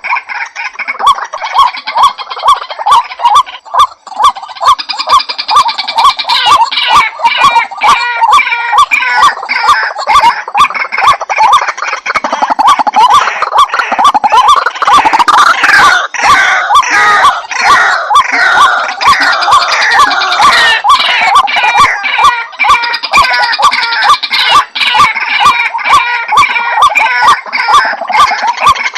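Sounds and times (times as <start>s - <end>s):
waterhen calling: 0.0s - 28.9s.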